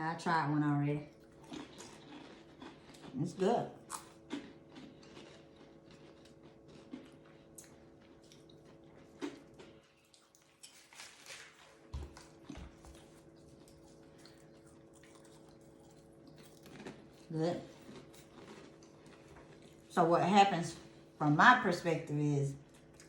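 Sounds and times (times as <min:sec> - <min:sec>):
faint steady hum: 0:00.0 - 0:23.0
crunching and chewing food: 0:00.1 - 0:21.2, 0:22.0 - 0:23.0.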